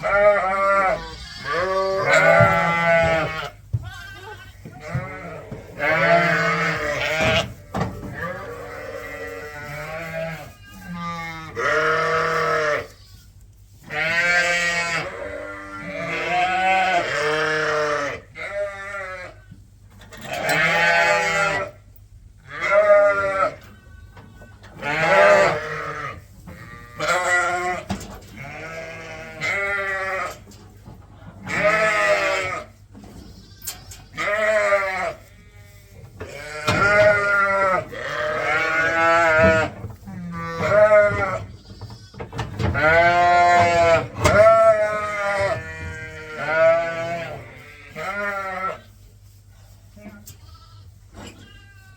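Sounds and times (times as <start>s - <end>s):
sheep bleating: 0.0s - 13.3s, 13.9s - 19.4s, 20.2s - 21.8s, 22.5s - 30.4s, 31.4s - 32.8s, 33.4s - 48.8s, 50.0s - 51.9s.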